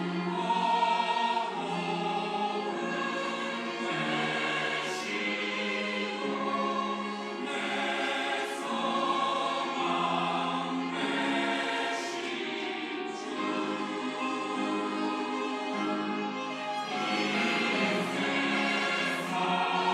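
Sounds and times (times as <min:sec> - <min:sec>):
mixed choir singing: 0:00.0 - 0:19.9.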